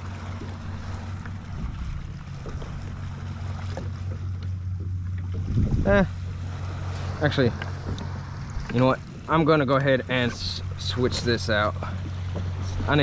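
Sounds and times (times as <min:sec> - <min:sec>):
steady low hum: 0:00.0 - 0:13.0
water noise: 0:00.0 - 0:13.0
wind: 0:00.0 - 0:13.0.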